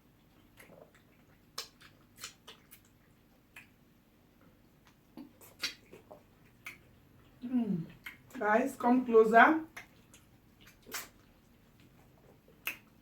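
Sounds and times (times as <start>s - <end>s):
wet clicks and smacks of eating: 0.1s - 3.8s, 4.4s - 8.4s, 9.6s - 13.0s.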